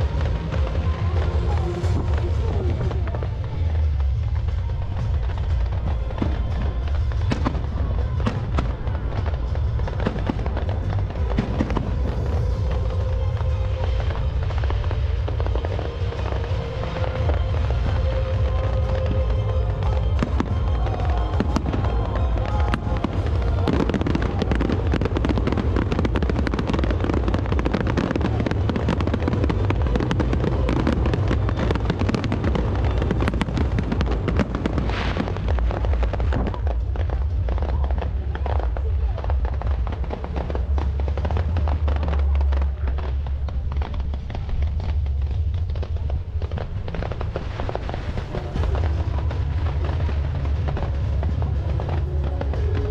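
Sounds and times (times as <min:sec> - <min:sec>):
fireworks booming: 0:00.0 - 0:52.9
fireworks crackling: 0:00.0 - 0:52.9.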